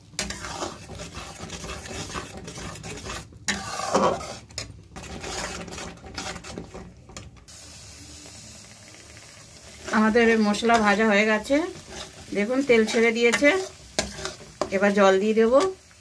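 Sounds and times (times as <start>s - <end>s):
metal spoon scraping a pan: 0.0s - 7.4s, 9.8s - 15.8s
faint sizzle: 0.0s - 16.0s.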